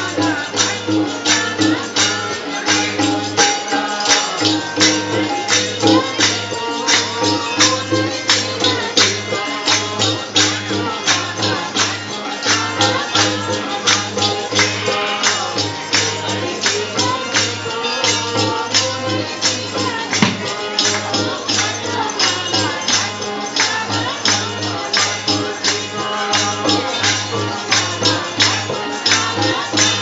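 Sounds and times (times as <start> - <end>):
harmonium chords: 0.0 - 30.0
tabla beat: 0.0 - 30.0
voices singing along: 0.0 - 30.0
claps or percussion strokes: 0.1 - 30.0.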